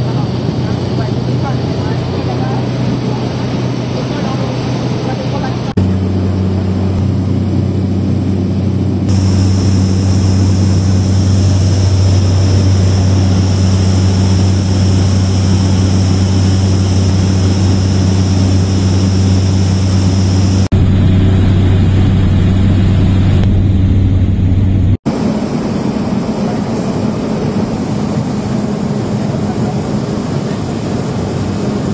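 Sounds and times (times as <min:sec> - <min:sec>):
turboprop cabin drone: 0:00.0 - 0:31.9.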